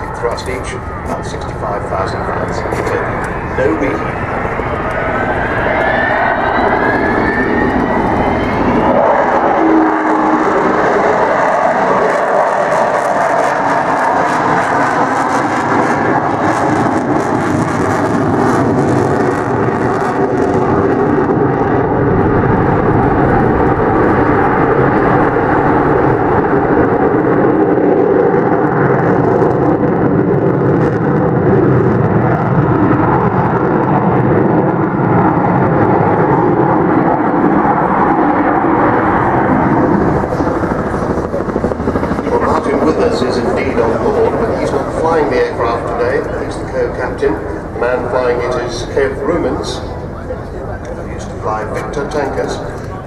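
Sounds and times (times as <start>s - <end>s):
loud jet engine noise: 0.0s - 53.0s.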